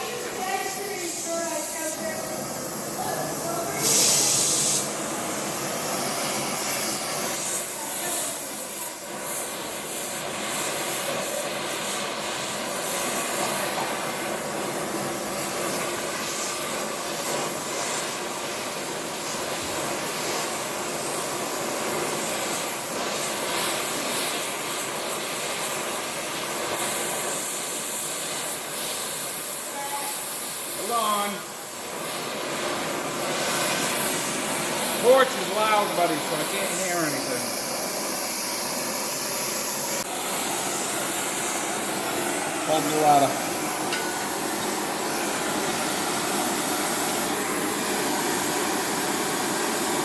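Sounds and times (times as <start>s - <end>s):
metalworking machine hissing: 0.0s - 50.0s.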